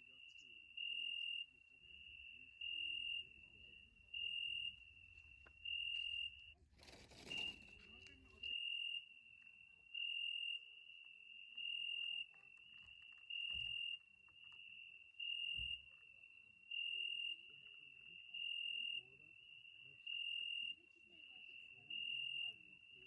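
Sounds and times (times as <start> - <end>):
cricket chirping: 0.0 - 23.0.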